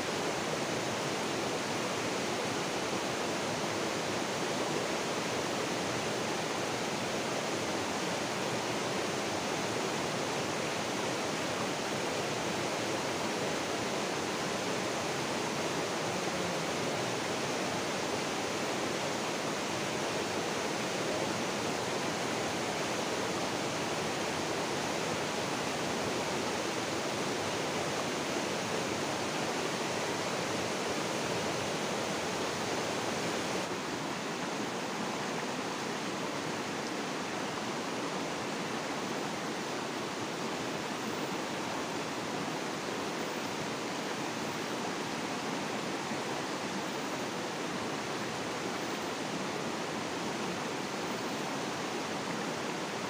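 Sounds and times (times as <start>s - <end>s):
river rushing over rocks: 0.0s - 53.0s.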